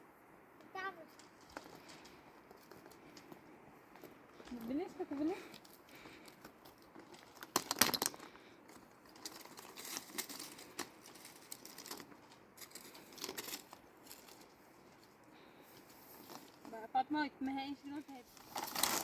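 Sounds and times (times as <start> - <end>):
crinkling and rustling: 1.0 - 3.4, 4.0 - 16.9, 18.0 - 19.0.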